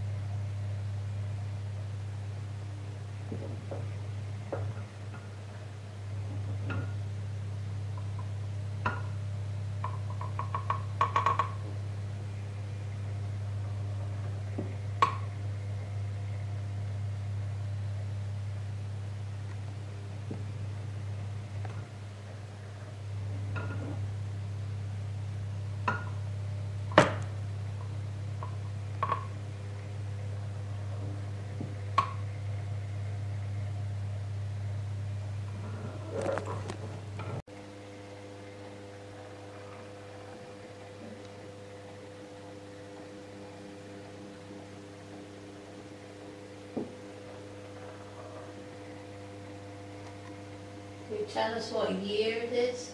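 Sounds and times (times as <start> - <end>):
low electrical hum: 0.0 - 52.9.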